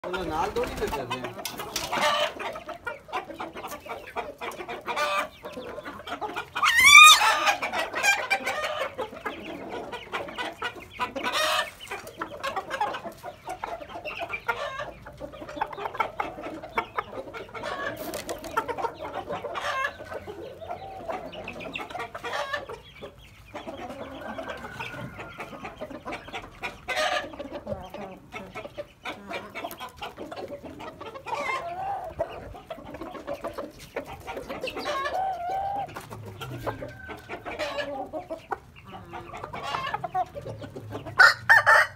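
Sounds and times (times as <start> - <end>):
chickens clucking and calling: 0.0 - 41.9.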